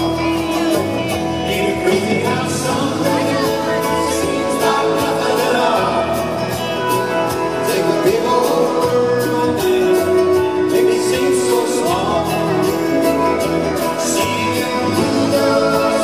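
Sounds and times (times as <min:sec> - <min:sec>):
live country-rock band: 0:00.0 - 0:16.0
voices singing held notes: 0:00.0 - 0:16.0.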